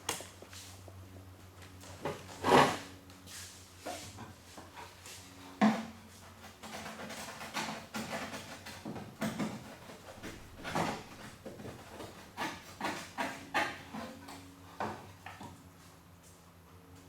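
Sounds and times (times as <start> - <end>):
tools scraping and clunking: 1.7 - 15.9.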